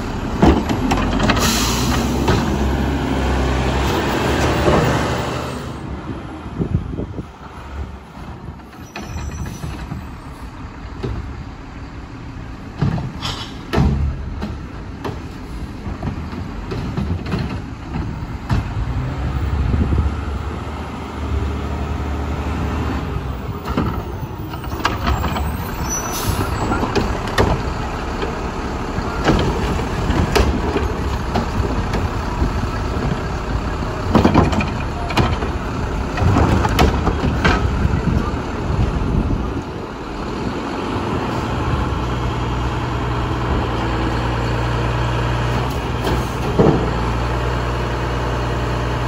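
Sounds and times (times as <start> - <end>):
diesel truck engine revving: 0.0 - 8.4, 17.6 - 49.0.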